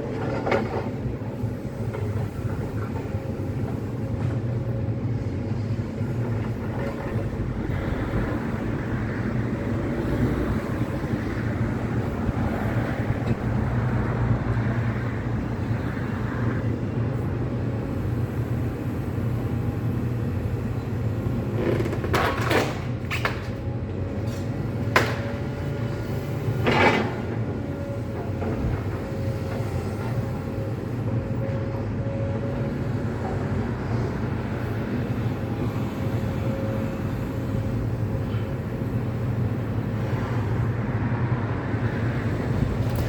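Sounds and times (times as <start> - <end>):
excavator diesel engine: 0.0 - 43.0.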